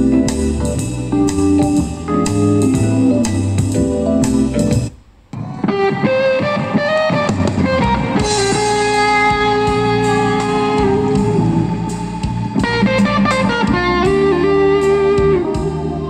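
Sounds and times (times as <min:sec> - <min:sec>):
electric guitar sustained notes: 0:00.0 - 0:16.0
rock drums: 0:00.0 - 0:16.0.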